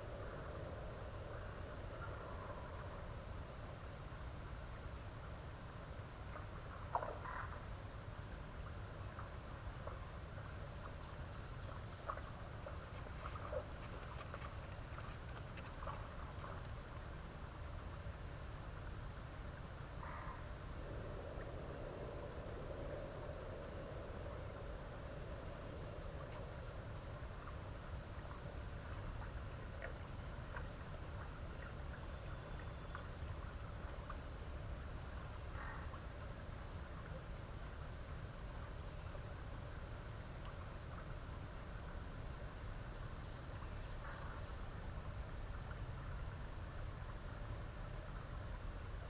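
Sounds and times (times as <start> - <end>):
steady low hiss: 0.0 - 49.0.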